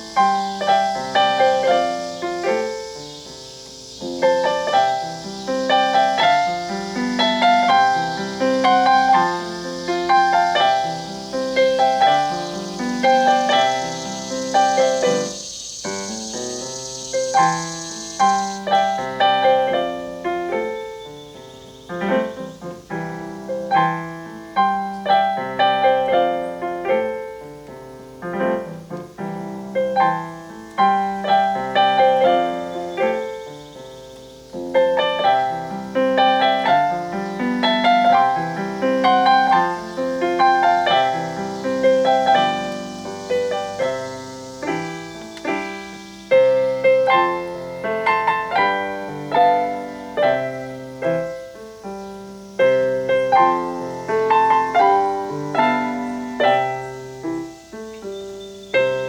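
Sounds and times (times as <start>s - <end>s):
cicada drone: 0.0s - 59.0s
solo piano country ballad: 0.0s - 59.0s.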